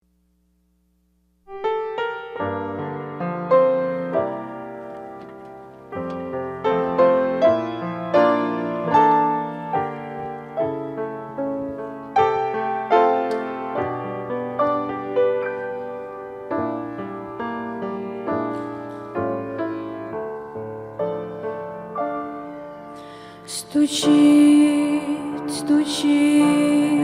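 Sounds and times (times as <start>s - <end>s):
piano playing hymn chords: 1.5s - 27.0s.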